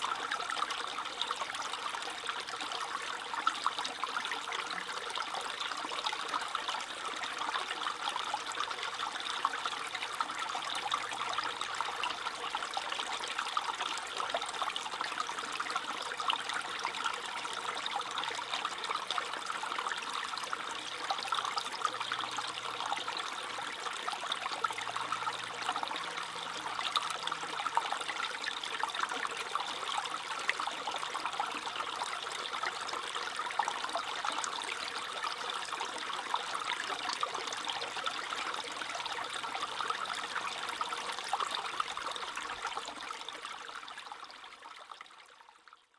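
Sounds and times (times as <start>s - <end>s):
stream babbling over stones: 0.0s - 45.4s.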